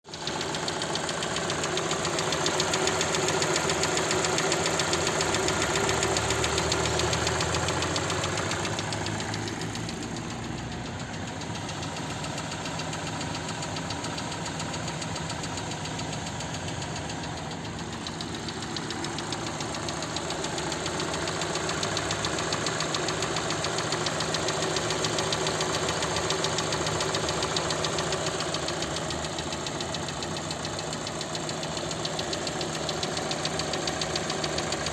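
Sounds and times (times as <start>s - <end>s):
cold engine idling with knock: 0.1s - 34.9s.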